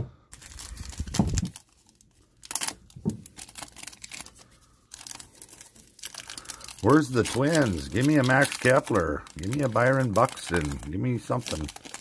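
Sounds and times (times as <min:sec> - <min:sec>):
foil wrapper crinkling and tearing: 0:00.2 - 0:12.0.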